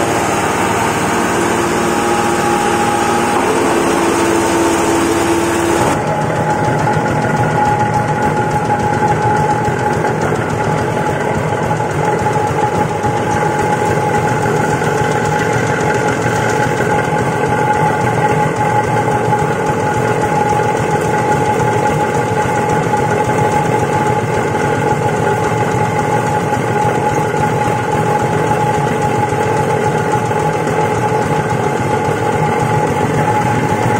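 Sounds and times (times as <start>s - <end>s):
grinding mill running with high whine: 0.0s - 33.9s.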